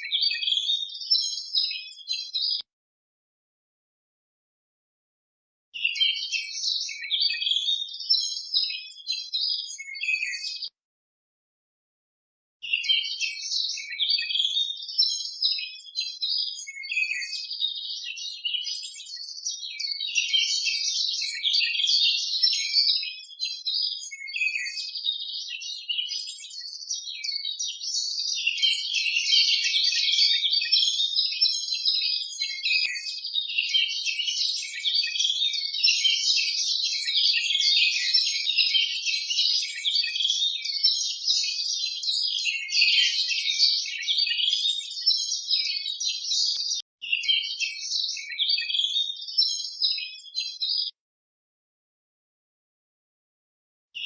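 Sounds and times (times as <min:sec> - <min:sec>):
small birds chirping: 0:00.0 - 0:02.7, 0:05.8 - 0:10.8, 0:12.6 - 0:51.0.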